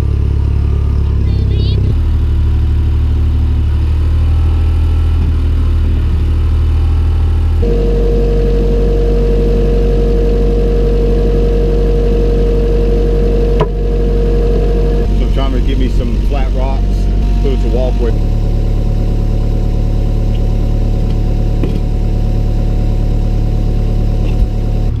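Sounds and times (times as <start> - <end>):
heavy equipment engine running: 0.0 - 25.0
steady whine: 0.0 - 25.0.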